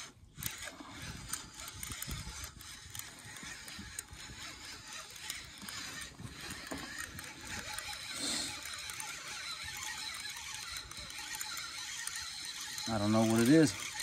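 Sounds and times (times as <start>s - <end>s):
fishing reel clicking: 0.0s - 14.0s.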